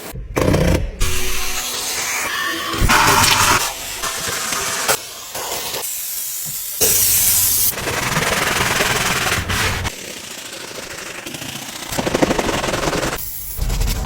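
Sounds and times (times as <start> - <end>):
pressure washer spraying: 2.1 - 13.5.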